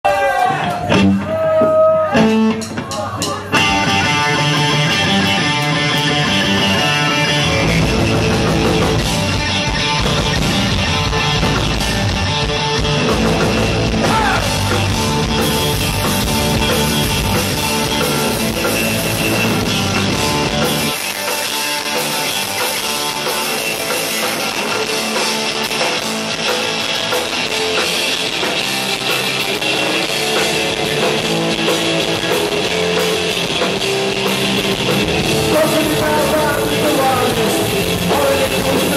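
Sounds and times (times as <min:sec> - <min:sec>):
punk rock band playing: 0:00.0 - 0:38.9.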